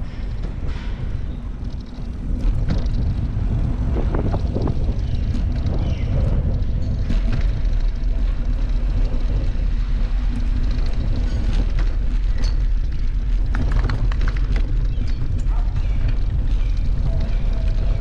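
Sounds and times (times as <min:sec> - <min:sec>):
bicycle tyres rumbling: 0:00.0 - 0:18.0
wheels rattling on cobblestones: 0:00.0 - 0:18.0
wind on microphone: 0:00.0 - 0:18.0.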